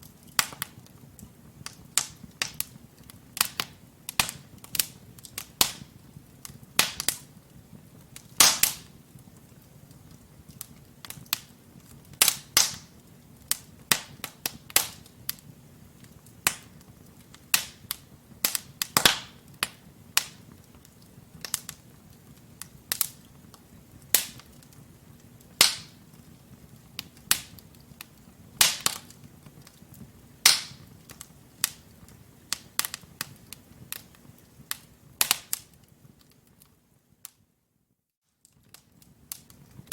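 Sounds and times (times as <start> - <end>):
low rumble of flames: 0.0 - 36.9
wood fire crackling: 0.0 - 37.5, 38.3 - 39.9.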